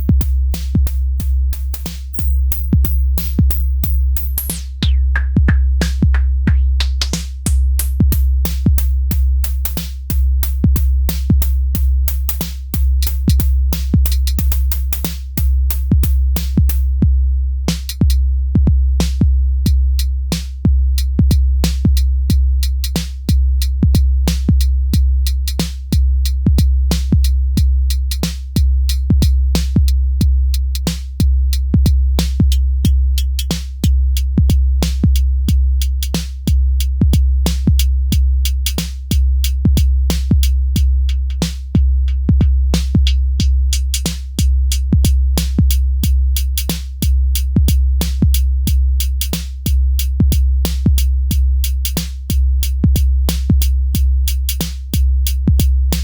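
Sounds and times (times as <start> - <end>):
electronic drum machine beat: 0.0 - 17.0, 17.7 - 56.0
hi-hat ticks: 0.0 - 17.0, 19.1 - 56.0
deep kick and bass: 0.0 - 56.0.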